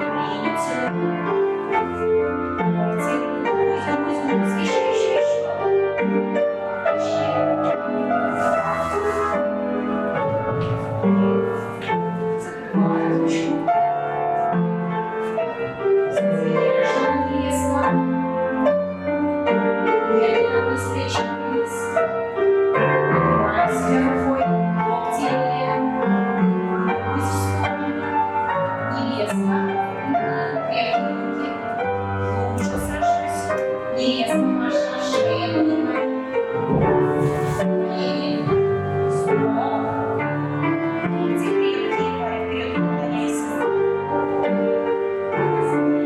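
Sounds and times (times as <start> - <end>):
piano folk-dance tune: 0.0 - 46.0.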